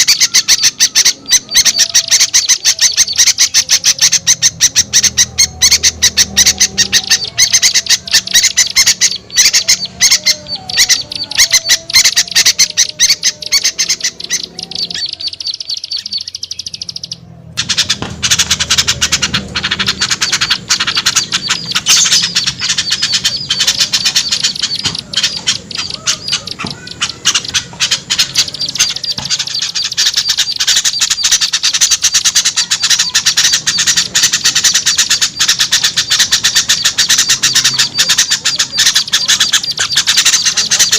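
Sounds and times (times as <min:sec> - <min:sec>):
songbirds chattering and squawking: 0:00.0 - 0:40.9.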